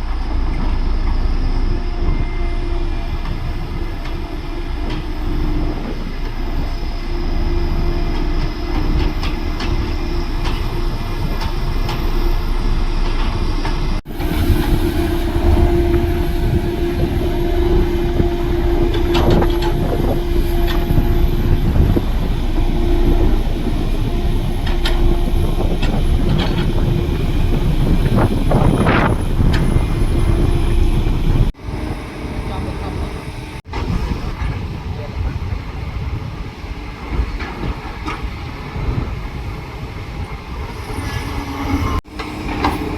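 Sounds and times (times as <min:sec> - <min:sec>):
construction machinery engine drone: 0:00.0 - 0:36.0.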